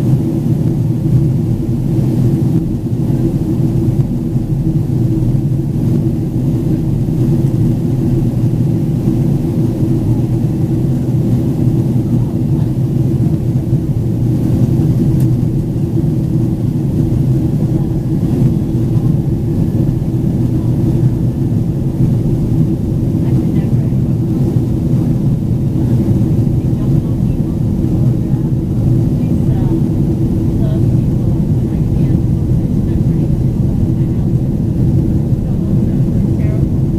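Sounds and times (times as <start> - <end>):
airplane cabin engine rumble: 0.0 - 36.9.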